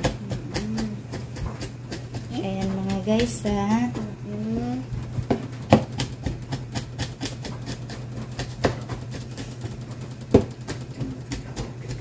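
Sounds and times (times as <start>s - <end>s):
knife chopping on wooden board: 0.0s - 4.1s, 5.2s - 12.0s.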